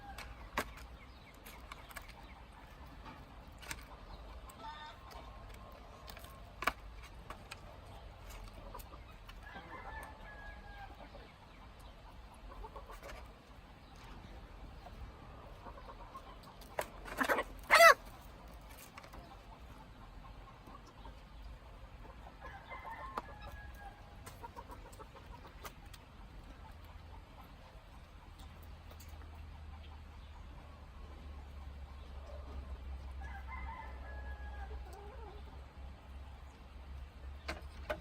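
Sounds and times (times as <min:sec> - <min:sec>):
chickens calling: 0:00.0 - 0:38.0.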